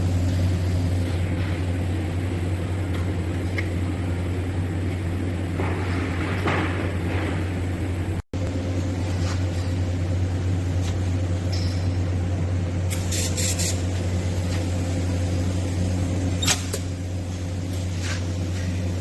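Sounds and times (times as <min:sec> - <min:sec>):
welding electrical hum: 0:00.0 - 0:19.0.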